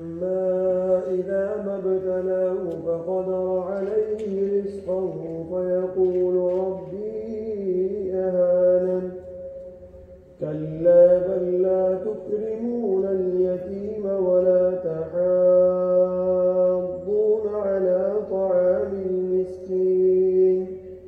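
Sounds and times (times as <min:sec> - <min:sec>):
man chanting melodic recitation: 0:00.0 - 0:09.6, 0:10.2 - 0:21.0.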